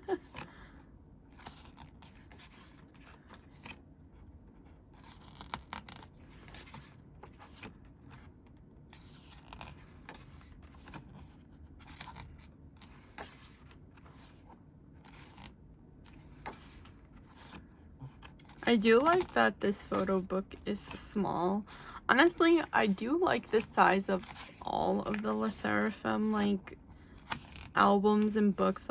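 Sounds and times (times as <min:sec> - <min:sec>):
faint low hum: 0:00.0 - 0:28.9
book pages turning: 0:01.3 - 0:28.9.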